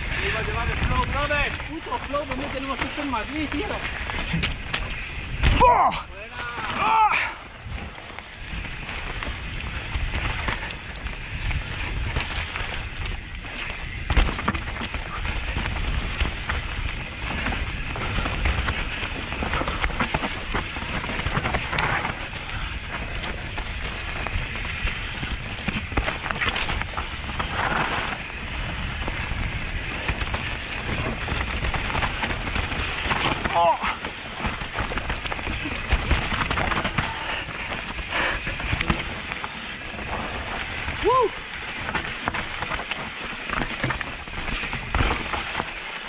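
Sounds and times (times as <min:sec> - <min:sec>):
bike rattling: 0:00.0 - 0:46.0
bike tyres crackling over leaves: 0:00.0 - 0:46.0
wind rumble on microphone: 0:00.0 - 0:46.0.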